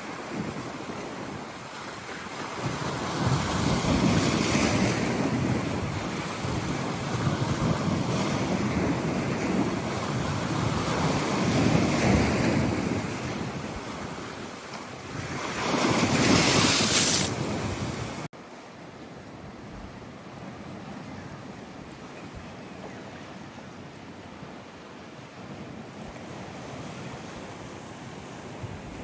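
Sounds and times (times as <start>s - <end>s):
wind buffeting microphone: 0.0s - 18.3s, 19.5s - 29.0s
waves breaking on shore: 0.0s - 29.0s.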